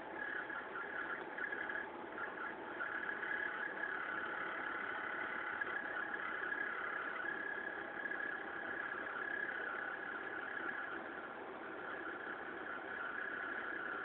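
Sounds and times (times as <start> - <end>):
high whine: 0.0 - 14.0.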